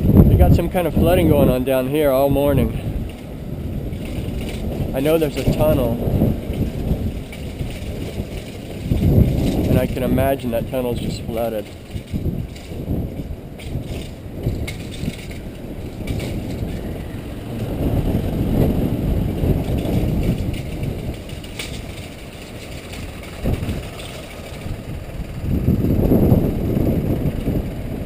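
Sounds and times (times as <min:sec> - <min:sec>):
wind buffeting microphone: 0:00.0 - 0:28.0
rattles and clicks: 0:00.1 - 0:28.0.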